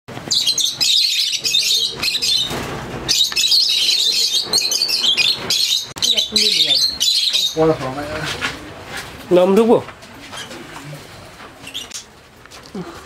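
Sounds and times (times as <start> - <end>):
lovebirds chattering: 0.2 - 8.9, 10.2 - 12.2.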